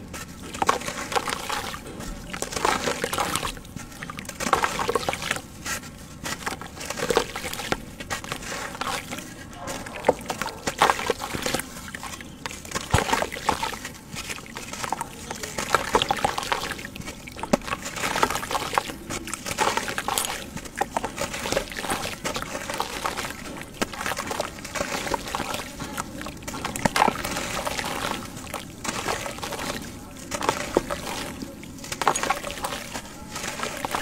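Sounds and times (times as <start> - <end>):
gritty crackles of crumbling block: 0.0 - 34.0
water sloshing and trickling: 0.0 - 34.0.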